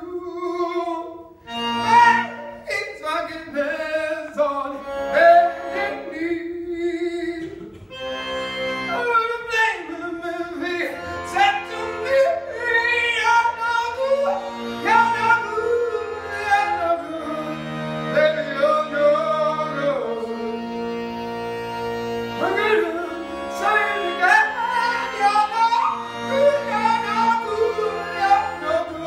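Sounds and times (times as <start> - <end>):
accordion playing slow chords: 0.0 - 29.0.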